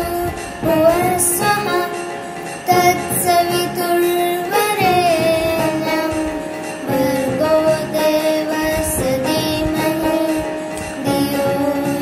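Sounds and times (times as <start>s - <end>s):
boy singing devotional prayer: 0.0s - 2.0s, 2.6s - 12.0s.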